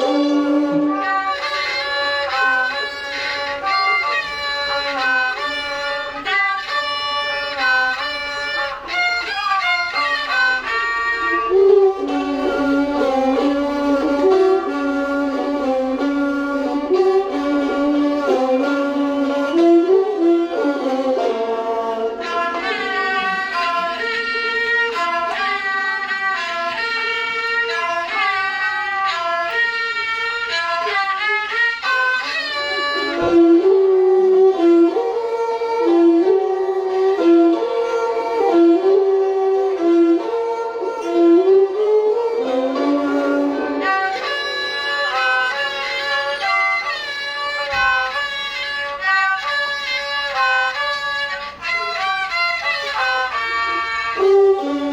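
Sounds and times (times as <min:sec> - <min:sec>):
classical bowed string music: 0:00.0 - 0:54.9.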